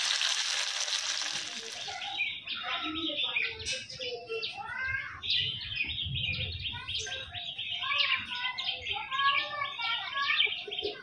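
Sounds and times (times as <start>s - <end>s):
birds chirping and twittering: 0.2s - 11.0s.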